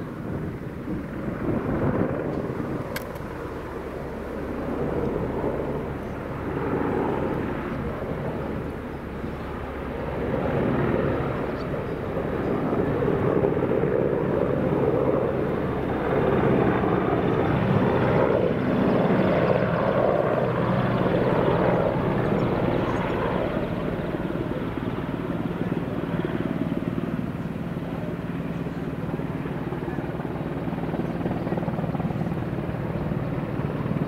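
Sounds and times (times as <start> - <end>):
helicopter rotors beating: 0.0 - 34.0
turboshaft engine whine: 0.0 - 34.0.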